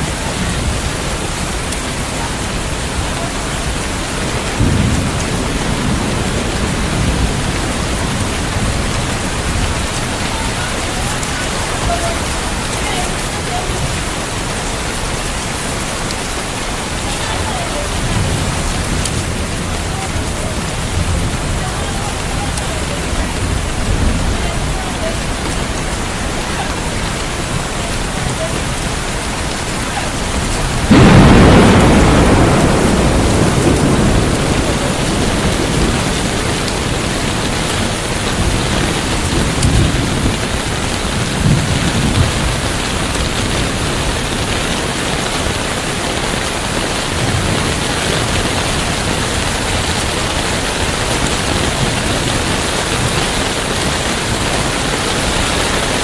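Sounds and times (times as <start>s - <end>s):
heavy rain: 0.0s - 56.0s
thunder rumbling: 0.0s - 56.0s.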